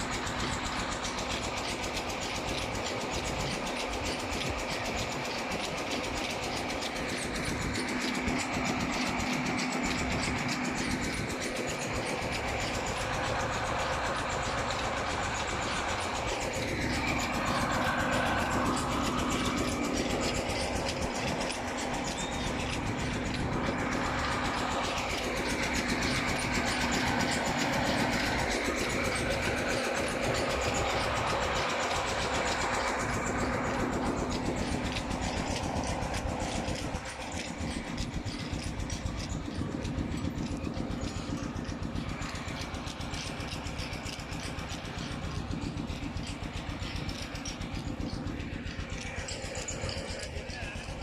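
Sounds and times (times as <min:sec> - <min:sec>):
fast even ticking: 0:00.0 - 0:51.0
vehicle running hum: 0:00.0 - 0:51.0.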